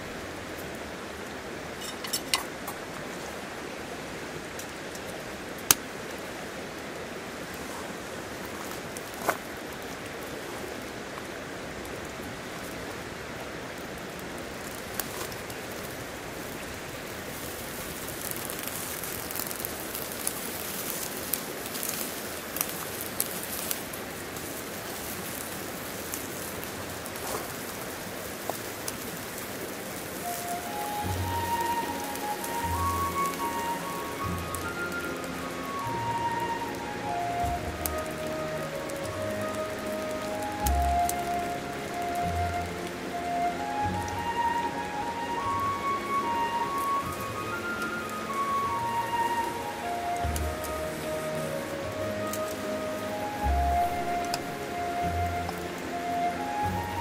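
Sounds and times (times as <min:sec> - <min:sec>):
stream rushing: 0:00.0 - 0:57.0
wood fire crackling: 0:00.0 - 0:57.0.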